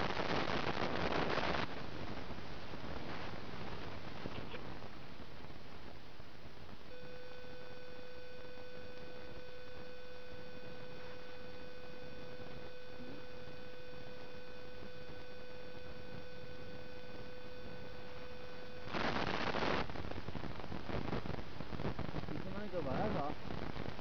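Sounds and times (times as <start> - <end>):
low hiss: 0.0 - 24.0
rush of noise on microphone: 0.0 - 24.0
steady electrical whine: 0.0 - 24.0.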